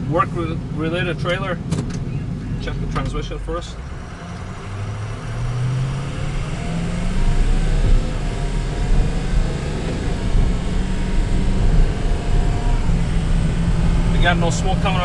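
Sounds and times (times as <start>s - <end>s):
diesel truck engine accelerating: 0.0s - 15.0s.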